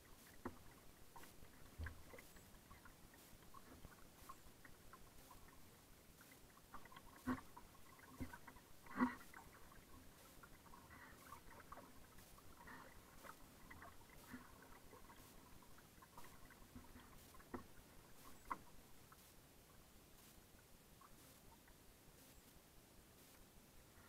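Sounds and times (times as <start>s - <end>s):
water lapping against kayak hull: 0.0s - 24.0s.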